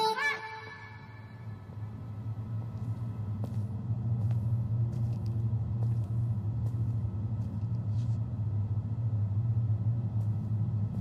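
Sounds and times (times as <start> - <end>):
steady low rumble: 0.6 - 11.0.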